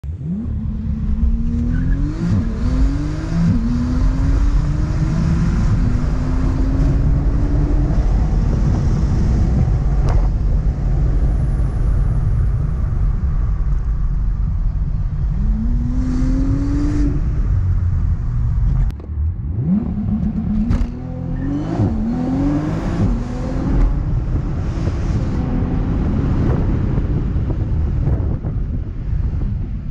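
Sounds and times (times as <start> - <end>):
car engine accelerating hard: 0.0 - 29.9
steady low rumble: 0.0 - 29.9.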